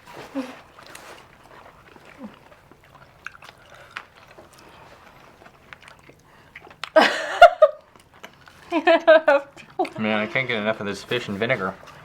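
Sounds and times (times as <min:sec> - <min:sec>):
chewing and mouth sounds: 0:00.0 - 0:12.0.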